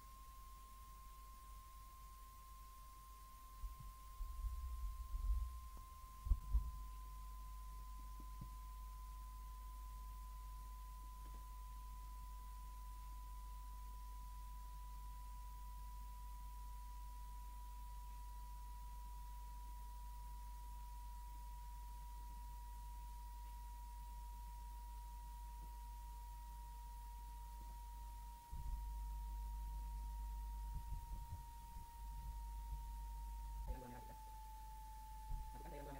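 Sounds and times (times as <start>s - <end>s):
low electrical hum: 0.0s - 35.9s
steady high pure tone: 0.0s - 35.9s.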